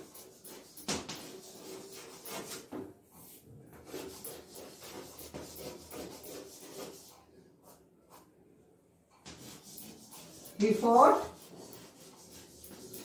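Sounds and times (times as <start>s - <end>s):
chalk scratching on blackboard: 0.0s - 8.4s, 9.2s - 13.0s.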